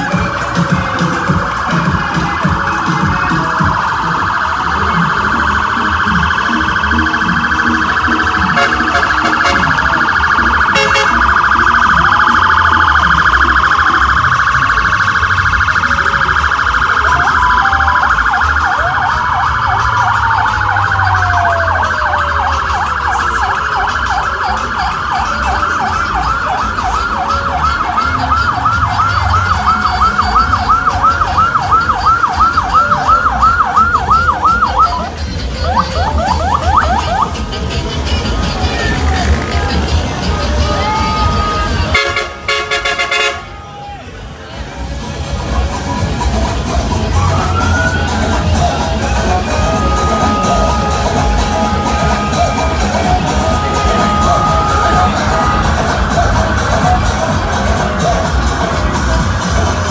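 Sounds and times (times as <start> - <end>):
emergency vehicle siren: 0.0 - 59.9.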